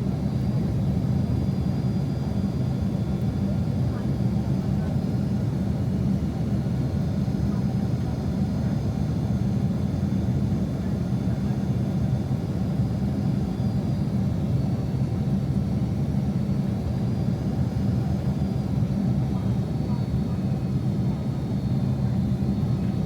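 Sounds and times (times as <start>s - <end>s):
jet engines and airflow roar: 0.0s - 23.0s.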